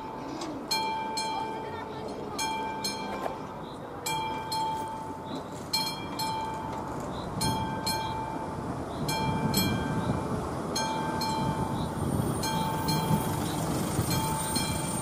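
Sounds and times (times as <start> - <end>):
electric crossing bell ringing: 0.0 - 15.0
low rumble of approaching train: 0.0 - 15.0.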